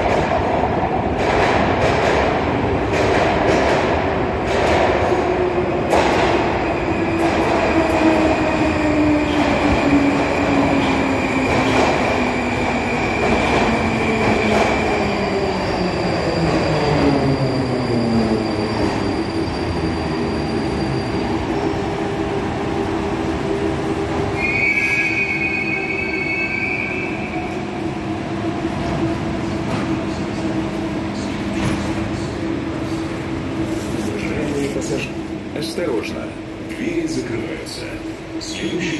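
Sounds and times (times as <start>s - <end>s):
train humming: 0.0s - 38.9s.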